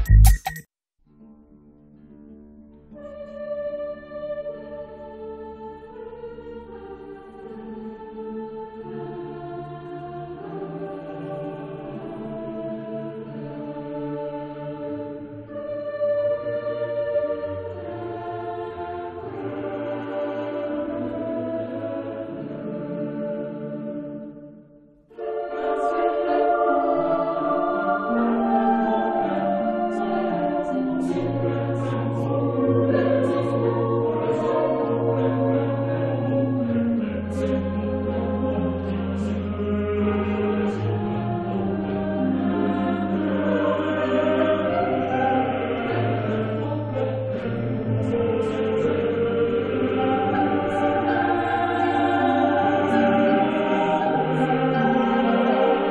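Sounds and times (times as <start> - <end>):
choir singing sustained chords: 2.9 - 55.9.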